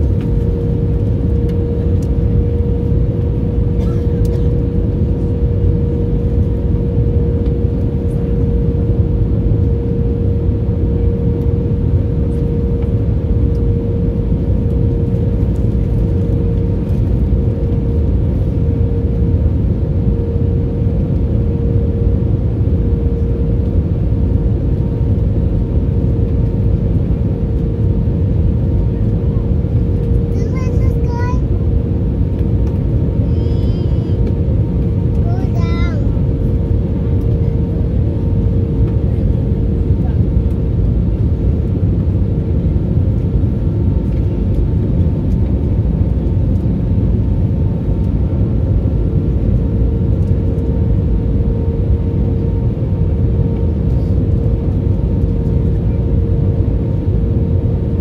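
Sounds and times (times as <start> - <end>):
engine and airflow rumble: 0.0 - 58.0
mid-pitched hum: 0.0 - 58.0.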